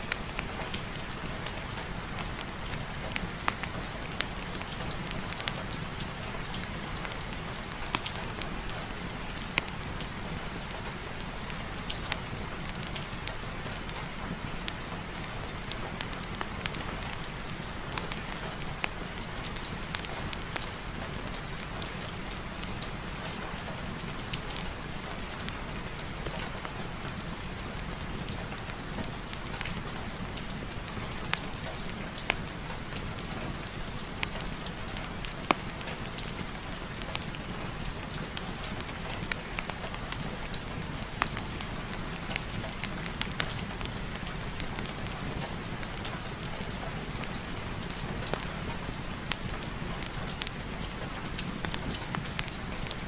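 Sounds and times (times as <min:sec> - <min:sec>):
sharp ticks of raindrops: 0:00.0 - 0:53.0.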